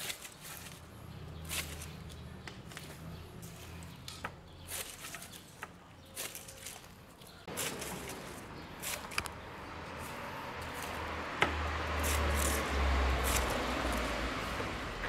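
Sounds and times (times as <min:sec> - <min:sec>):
knife slicing pineapple rind: 0:00.0 - 0:14.7.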